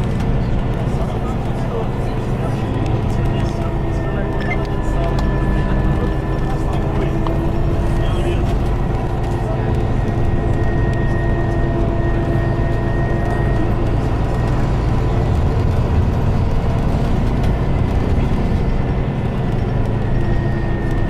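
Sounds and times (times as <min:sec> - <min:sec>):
bus engine rumble with whine: 0:00.0 - 0:21.0.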